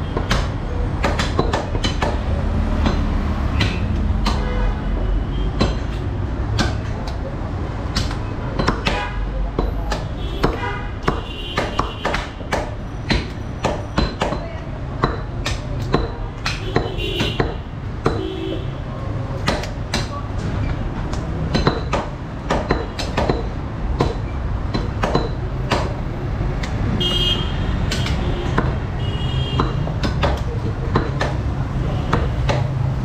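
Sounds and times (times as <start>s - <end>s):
cleavers chopping on wood: 0.0s - 4.6s, 5.4s - 27.0s, 27.8s - 33.0s.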